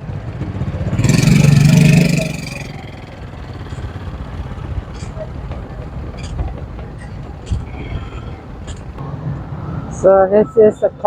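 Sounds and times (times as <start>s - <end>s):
vehicle engine passing by: 0.0s - 10.2s
low traffic hum: 0.0s - 11.0s.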